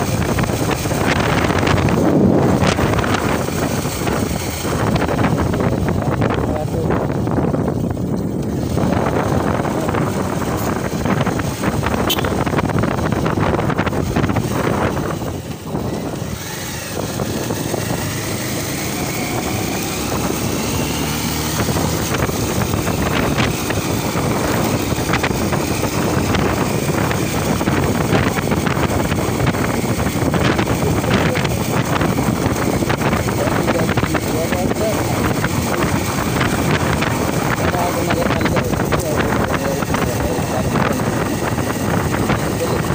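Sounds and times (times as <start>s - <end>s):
motorcycle engine and road noise: 0.0s - 42.9s
wind buffeting microphone: 0.0s - 42.9s.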